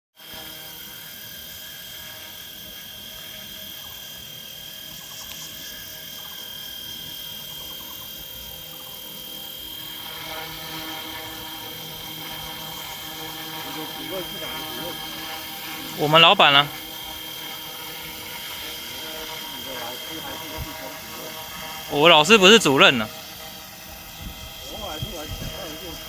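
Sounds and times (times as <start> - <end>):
model helicopter hovering: 0.2 - 26.0.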